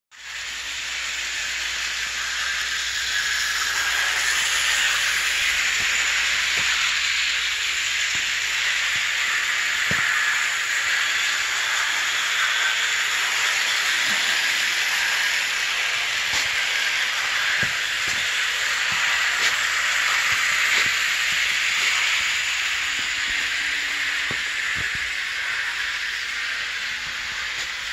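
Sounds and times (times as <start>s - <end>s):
toy train motor whirring: 0.2s - 27.9s.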